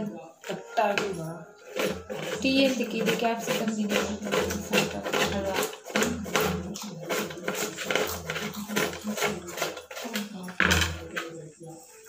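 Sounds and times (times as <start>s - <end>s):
knife chopping on a cutting board: 0.4s - 11.3s.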